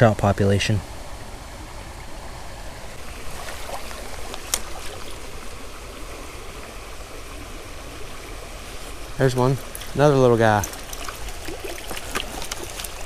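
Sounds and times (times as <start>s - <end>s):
creek water over rocks: 0.0s - 13.0s.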